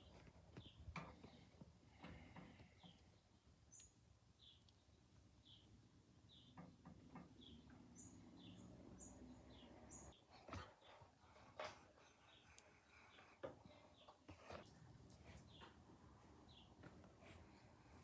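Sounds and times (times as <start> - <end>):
faint chirping: 0.0 - 18.0.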